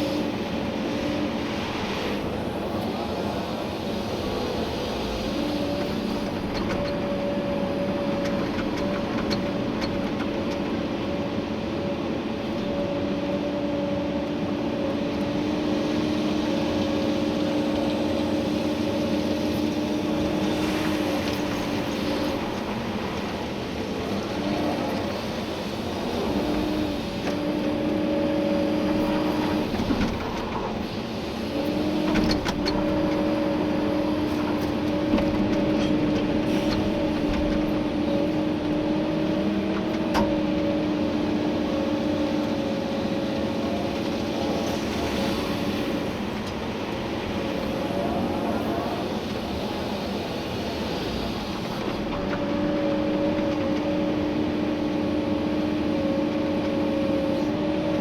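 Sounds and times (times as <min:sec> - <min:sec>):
excavator engine drone: 0:00.0 - 0:58.0
hydraulic whine: 0:00.0 - 0:58.0.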